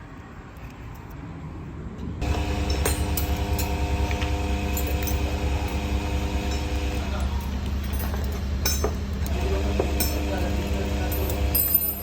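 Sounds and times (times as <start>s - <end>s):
air compressor running: 2.2s - 12.0s
light metallic clinks: 2.2s - 12.0s.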